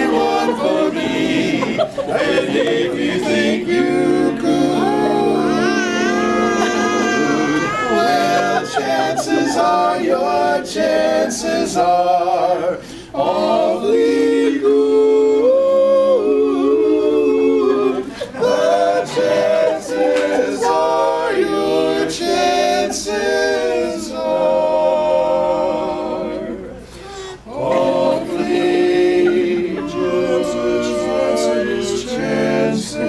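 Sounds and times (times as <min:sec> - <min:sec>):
male vocal quartet singing: 0:00.0 - 0:33.0.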